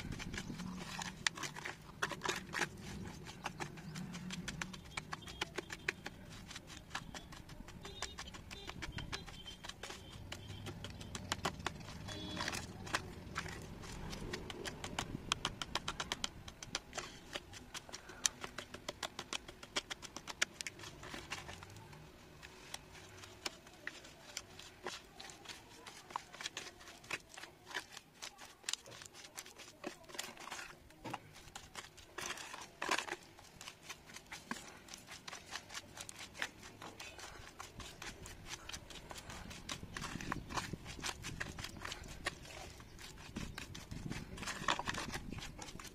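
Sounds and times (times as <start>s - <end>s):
spoon stirring wet clay paste: 0.0s - 45.9s.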